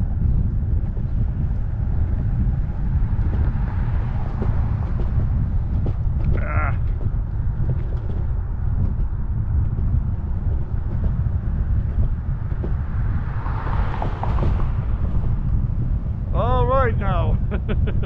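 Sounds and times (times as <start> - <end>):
scooter road rumble: 0.0 - 18.0
wind buffeting microphone: 0.0 - 18.0.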